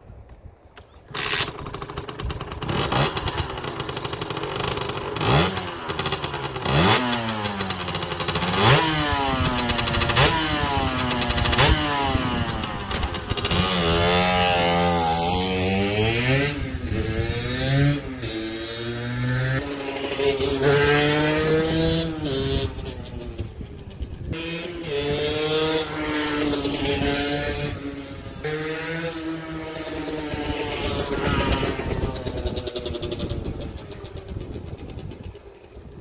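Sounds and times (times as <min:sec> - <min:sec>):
two-stroke motorbike engine revving: 0:01.1 - 0:35.2.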